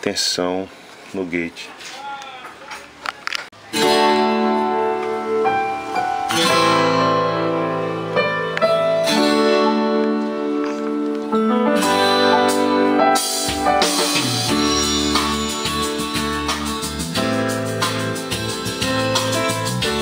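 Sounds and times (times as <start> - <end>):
guitar music through loudspeaker: 3.6 - 20.0.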